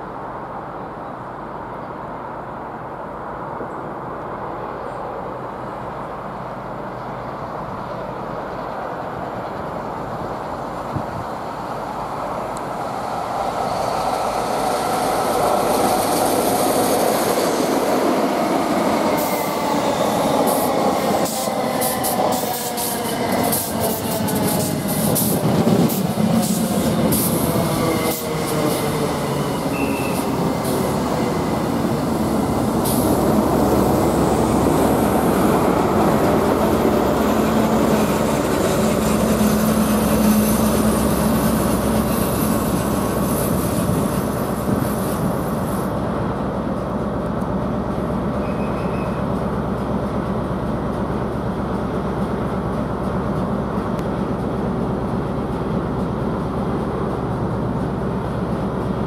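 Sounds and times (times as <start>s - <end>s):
train approaching: 0.0s - 59.0s.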